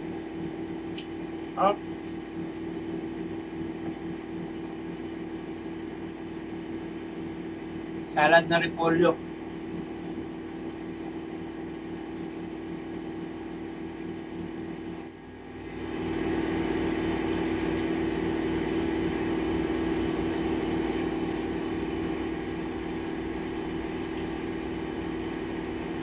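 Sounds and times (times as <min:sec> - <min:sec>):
steady motor drone: 0:00.0 - 0:26.0.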